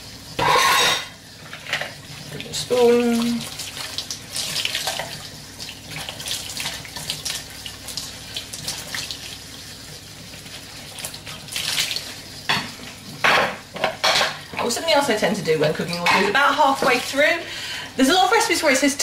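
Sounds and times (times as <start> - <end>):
dishes being washed: 0.0 - 19.0
water running and splashing: 0.0 - 19.0.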